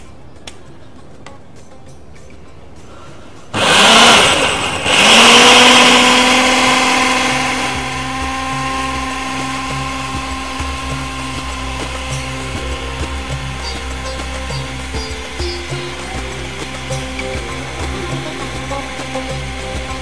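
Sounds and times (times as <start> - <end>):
electric food chopper whining: 3.6 - 20.0.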